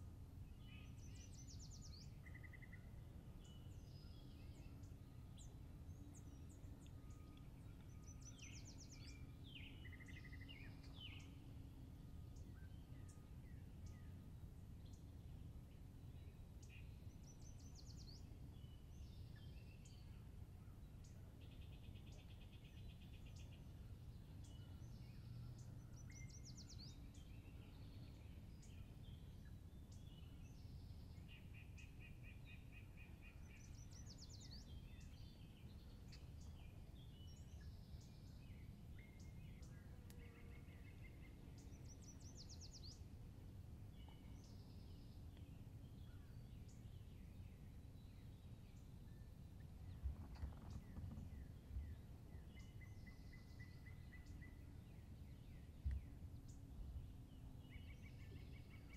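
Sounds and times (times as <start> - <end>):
faint songbirds singing: 0.0 - 58.9.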